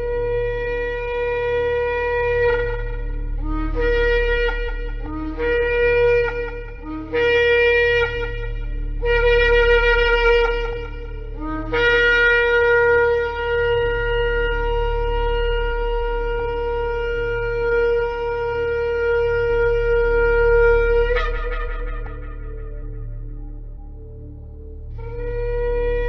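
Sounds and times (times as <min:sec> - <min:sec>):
ram's horn blasts: 0:00.0 - 0:24.1
low steady drone: 0:00.0 - 0:26.0.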